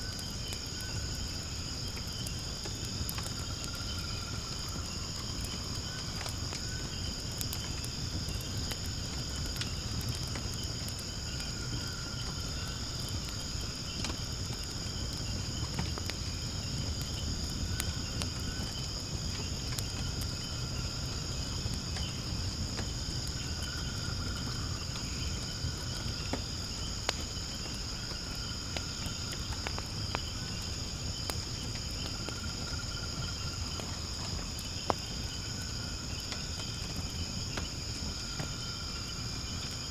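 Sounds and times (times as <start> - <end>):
insect chorus: 0.0 - 39.9
low fire rumble: 0.0 - 39.9
wood fire crackling and popping: 0.0 - 39.9.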